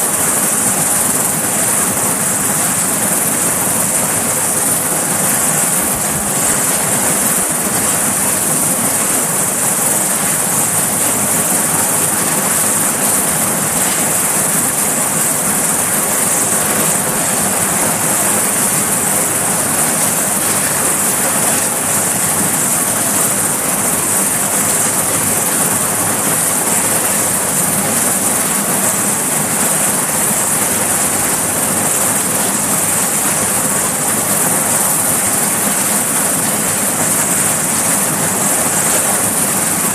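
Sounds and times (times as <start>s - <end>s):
helicopter engines and rotor running: 0.0s - 39.9s.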